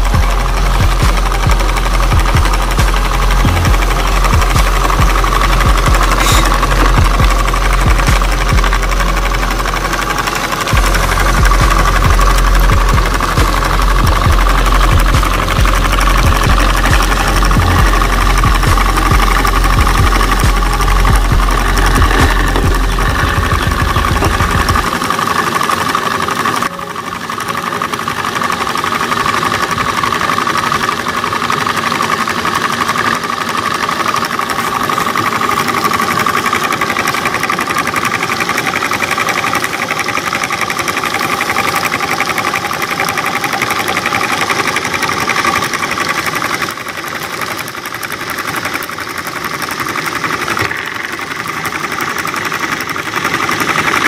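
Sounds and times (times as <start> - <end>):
small motor and pulley whining: 0.0 - 54.0.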